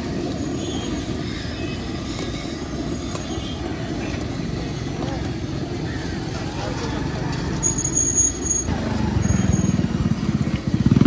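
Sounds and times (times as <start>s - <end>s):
stove burner roaring: 0.0s - 11.0s.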